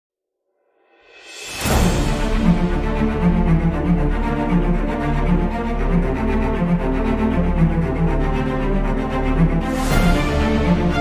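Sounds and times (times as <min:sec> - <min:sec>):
loud intro music: 0:01.0 - 0:11.0.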